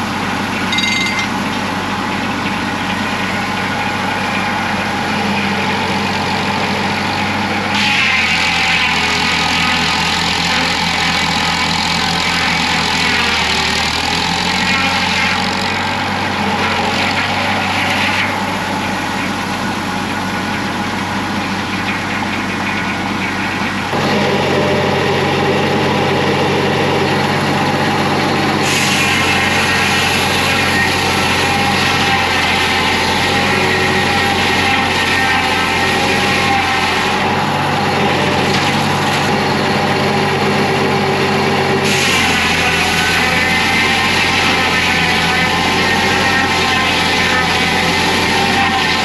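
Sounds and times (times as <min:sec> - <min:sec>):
bandsaw sawmill running: 0:00.0 - 0:49.0.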